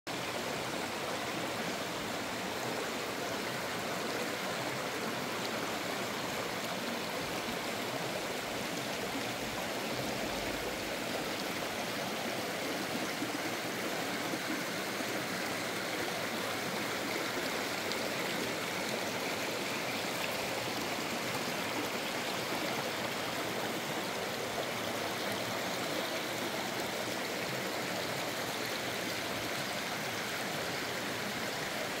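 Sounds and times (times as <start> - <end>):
stream water rushing over rocks: 0.1 - 32.0.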